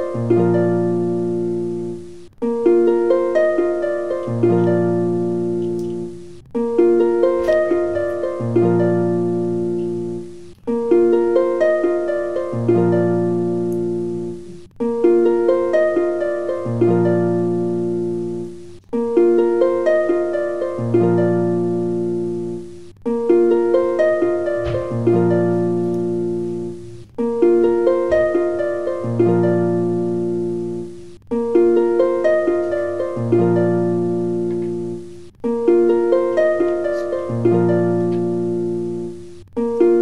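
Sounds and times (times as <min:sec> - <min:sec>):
plucked-string tune: 0:00.0 - 0:40.0.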